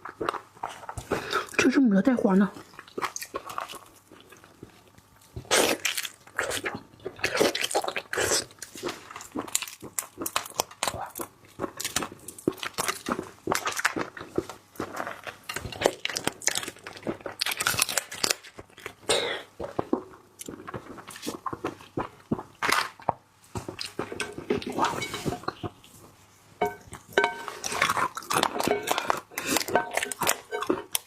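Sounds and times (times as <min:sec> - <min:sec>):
chewing: 0:02.6 - 0:25.8, 0:26.6 - 0:31.0.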